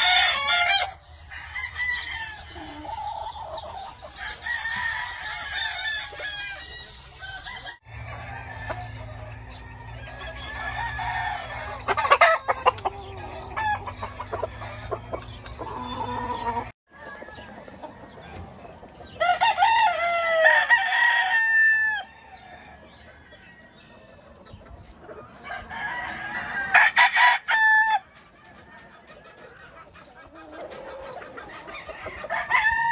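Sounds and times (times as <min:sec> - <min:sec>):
chickens clucking: 0:00.0 - 0:32.9
roosters crowing: 0:00.0 - 0:32.9.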